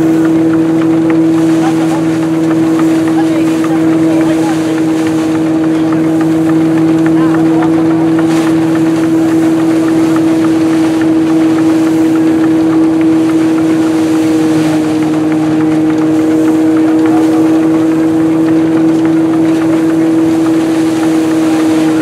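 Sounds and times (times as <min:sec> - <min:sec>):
threshing drum humming: 0:00.0 - 0:22.0.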